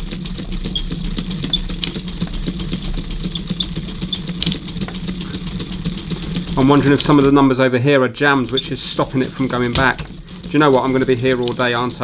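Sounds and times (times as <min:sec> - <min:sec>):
mechanical calculator clicking: 0:00.0 - 0:07.4, 0:08.3 - 0:12.0.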